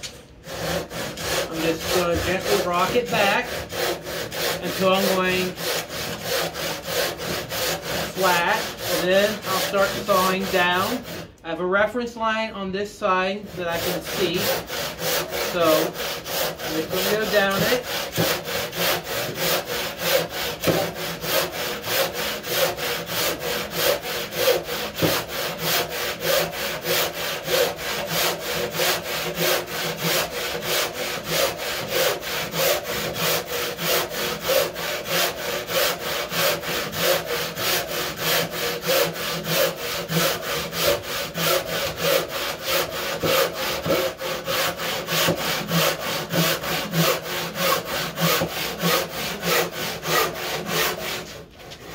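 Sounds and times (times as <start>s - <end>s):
hand saw cutting wood: 0.0s - 11.4s, 13.4s - 51.9s.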